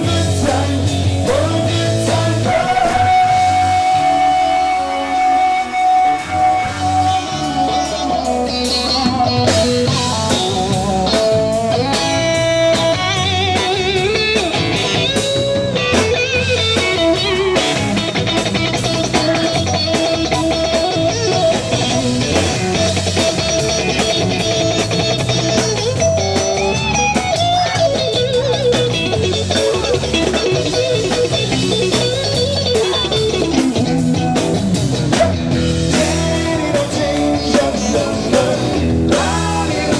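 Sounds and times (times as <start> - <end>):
bass guitar: 0.0 - 39.9
drum kit: 0.0 - 39.9
electric guitar lead: 0.0 - 39.9.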